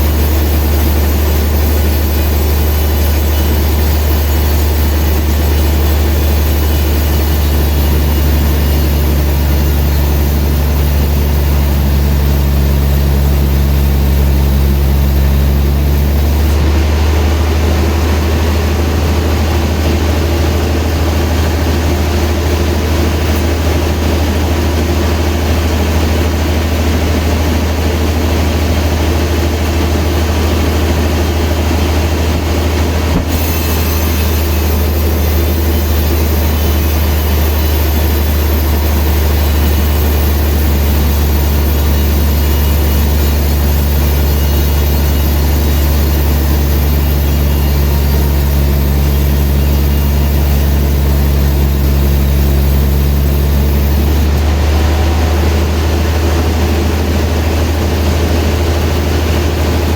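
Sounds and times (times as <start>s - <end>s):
sawmill machinery humming: 0.0s - 59.9s
steady machine tones: 0.0s - 59.9s.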